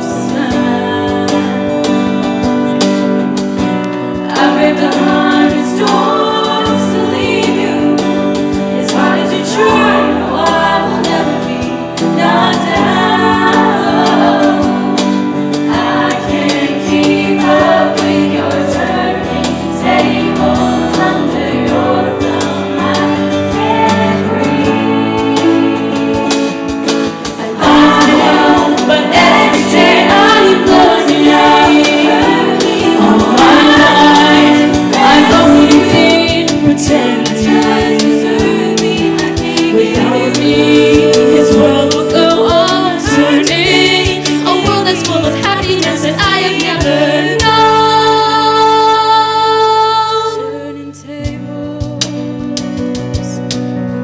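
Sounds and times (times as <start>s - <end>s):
choir singing in harmony: 0.0s - 53.6s
instrumental accompaniment: 0.0s - 54.0s.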